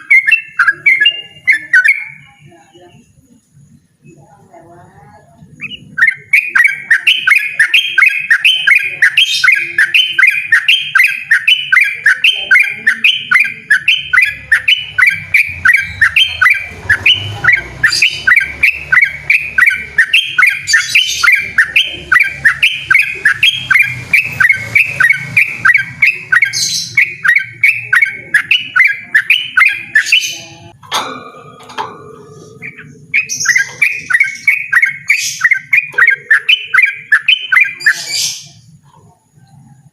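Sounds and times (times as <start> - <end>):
bird singing rapid notes: 0.0 - 3.2, 5.4 - 39.9.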